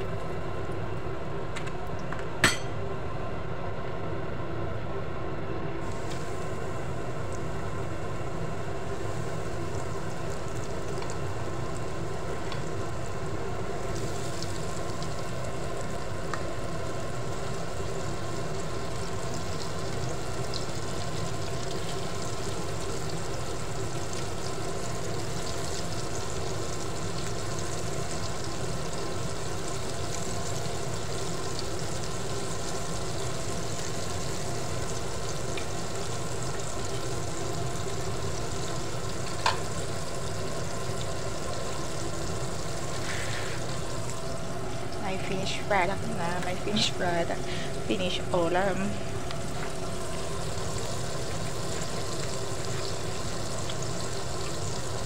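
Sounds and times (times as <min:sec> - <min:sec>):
chicken frying in hot oil: 0:00.0 - 0:03.3, 0:05.8 - 0:55.0
steady mechanical hum: 0:00.0 - 0:55.0.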